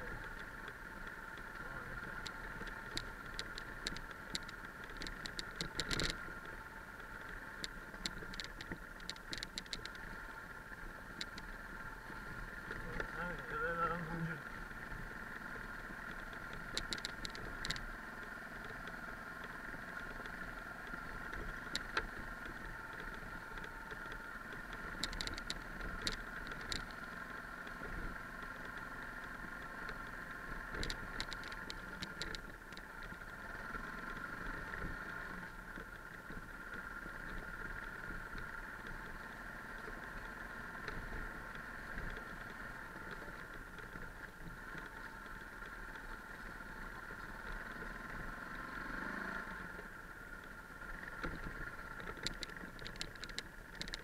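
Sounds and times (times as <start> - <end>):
motorcycle running at low speed: 0.0 - 54.0
sharp clicks and ticks: 0.0 - 54.0.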